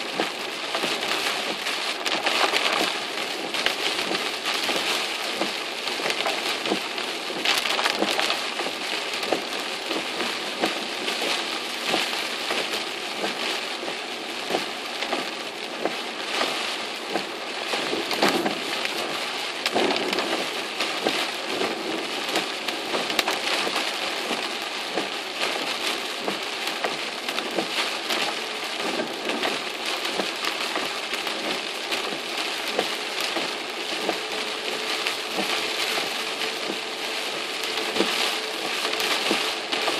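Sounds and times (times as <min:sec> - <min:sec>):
heavy rain on car windshield: 0:00.0 - 0:39.9.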